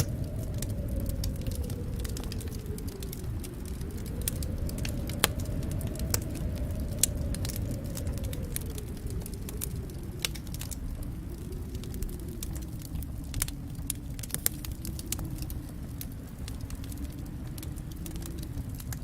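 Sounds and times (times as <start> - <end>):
low rumble of burning: 0.0 - 19.0
wood fire crackling: 0.0 - 19.0.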